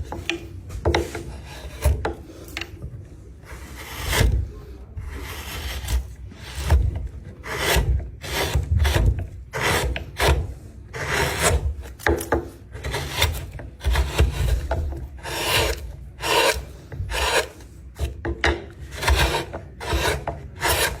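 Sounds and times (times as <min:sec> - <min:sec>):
abrasive tool scraping wood: 0:00.0 - 0:21.0.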